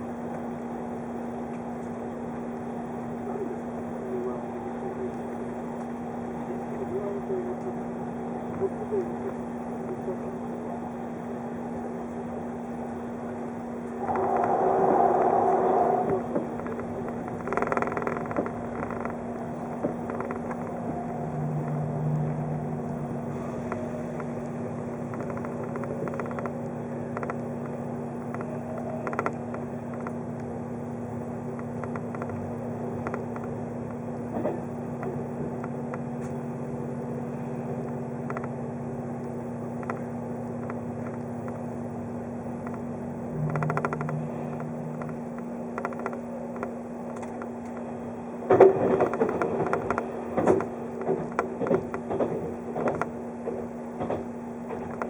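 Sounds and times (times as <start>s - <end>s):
electric train running hum: 0.0s - 55.0s.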